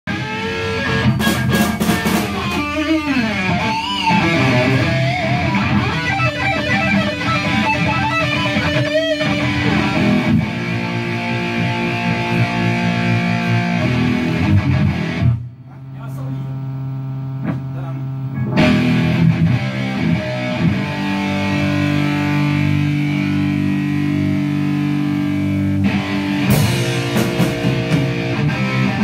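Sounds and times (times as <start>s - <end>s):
distorted electric guitar: 0.1s - 29.0s.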